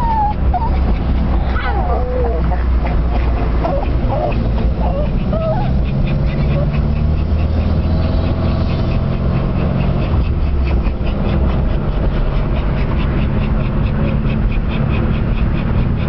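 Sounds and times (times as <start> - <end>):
car engine running: 0.0 - 16.0
dog panting: 0.0 - 16.0.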